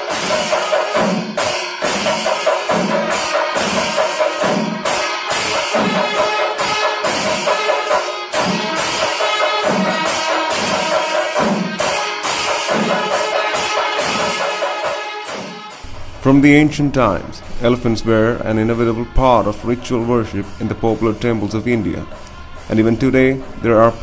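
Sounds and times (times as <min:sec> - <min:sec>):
drums thudding: 0:00.0 - 0:20.5
cymbal-like clashes: 0:00.0 - 0:24.0
sustained reedy tone: 0:02.8 - 0:24.0.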